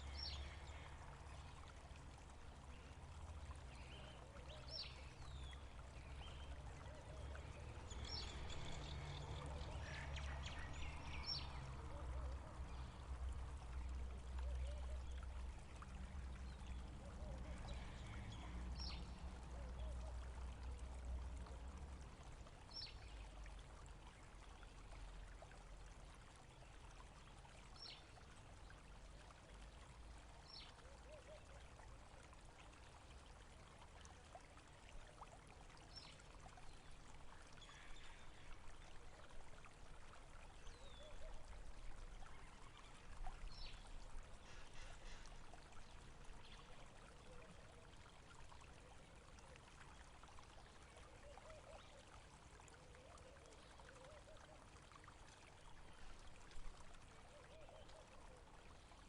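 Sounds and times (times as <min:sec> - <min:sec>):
stream water trickling: 0:00.0 - 0:59.0.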